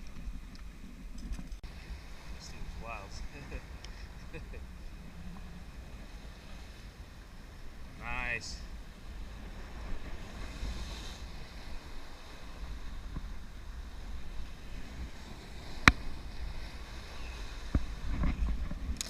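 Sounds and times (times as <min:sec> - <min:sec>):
low wind: 0:00.0 - 0:19.0
water noise: 0:00.0 - 0:19.0.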